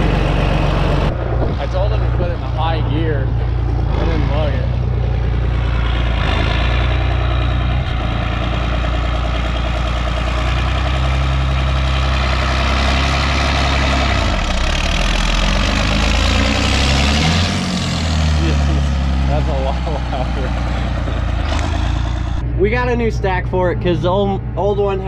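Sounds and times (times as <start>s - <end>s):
tractor engine idling: 0.0s - 25.0s.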